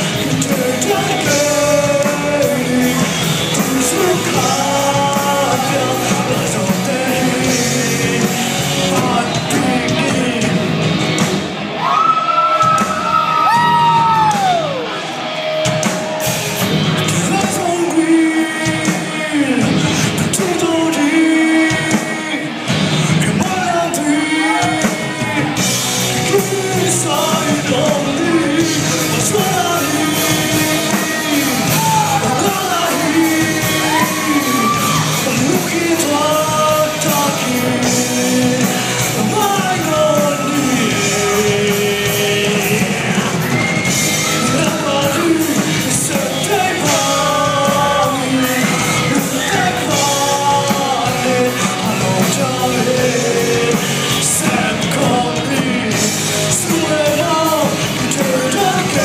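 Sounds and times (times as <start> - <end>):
music with sung vocal: 0.0 - 59.0.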